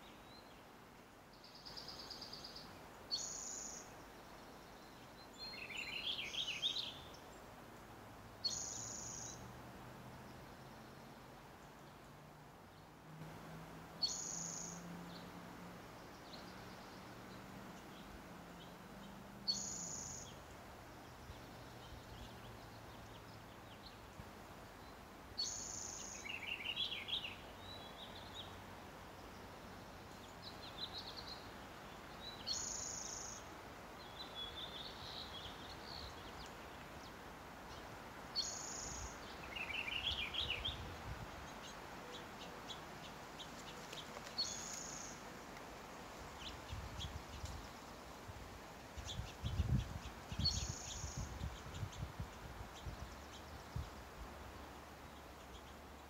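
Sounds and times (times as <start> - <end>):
songbirds singing: 0.0 - 56.0
steady background hiss: 0.0 - 56.0.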